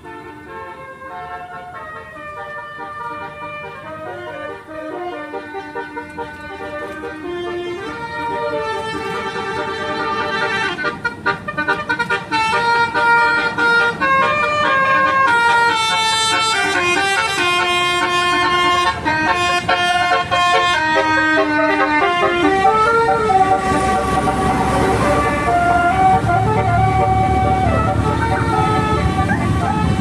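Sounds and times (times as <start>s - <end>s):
musical bus horn melody: 0.0s - 30.0s.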